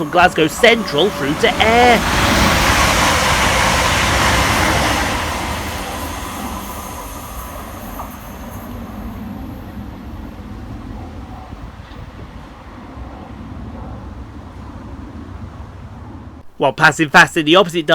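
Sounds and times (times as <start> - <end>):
train passing fast: 0.0 - 17.9.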